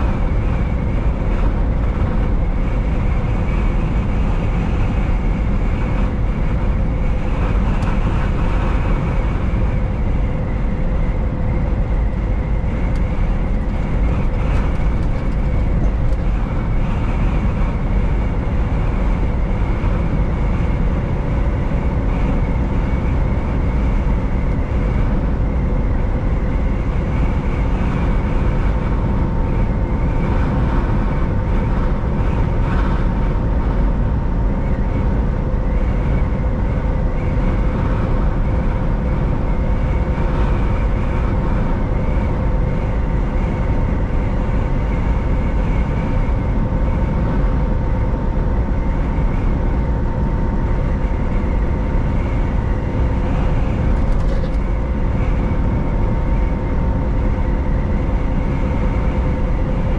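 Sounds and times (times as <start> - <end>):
faint whining tones: 0.0 - 59.9
truck engine and road drone: 0.0 - 59.9.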